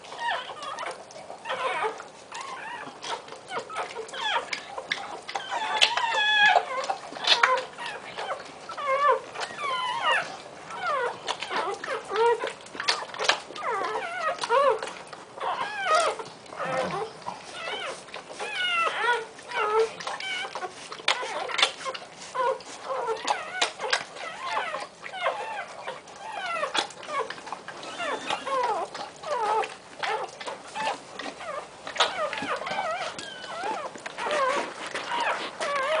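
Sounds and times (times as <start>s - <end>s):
puppy squeaking and crying: 0.0s - 36.0s
dog licking wet clicks: 0.1s - 36.0s.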